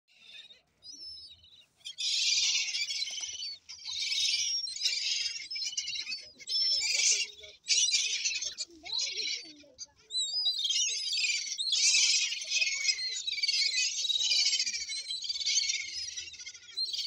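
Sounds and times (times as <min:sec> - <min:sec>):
gulls calling: 0:00.1 - 0:17.0.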